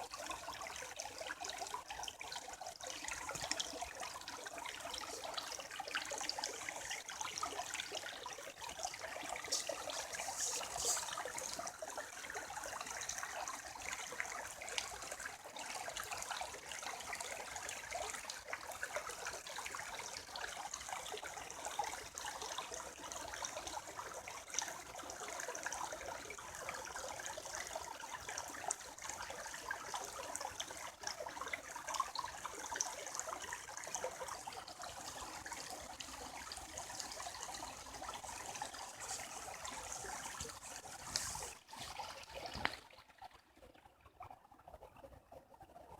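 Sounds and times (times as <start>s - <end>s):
creek water babbling over rocks: 0.0s - 45.9s.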